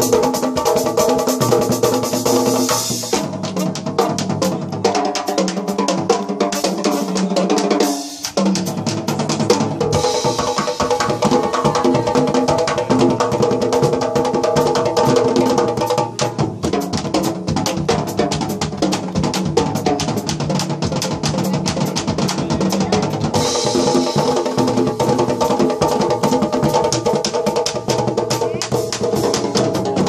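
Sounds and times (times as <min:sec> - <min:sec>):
drum kit: 0:00.0 - 0:30.0
hand drums beating: 0:00.0 - 0:30.0.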